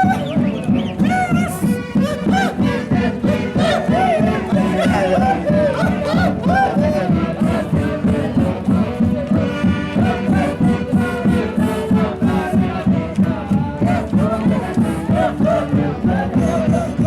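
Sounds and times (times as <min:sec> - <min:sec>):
crowd chanting along: 0:00.0 - 0:17.0
orchestra music with pulsing beat: 0:00.0 - 0:17.0.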